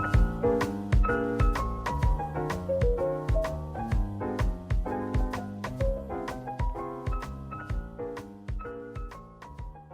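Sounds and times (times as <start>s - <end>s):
lo-fi instrumental music: 0.0s - 9.9s.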